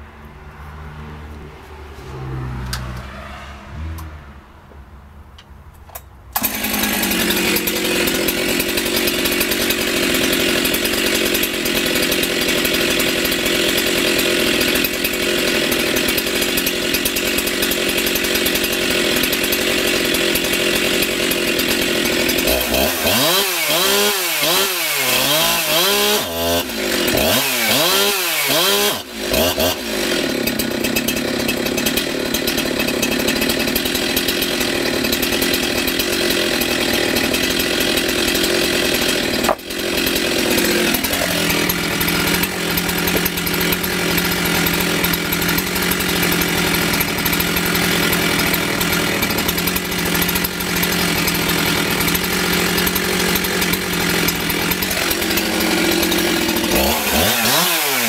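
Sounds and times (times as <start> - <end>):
chainsaw engine revving: 6.4 - 58.0.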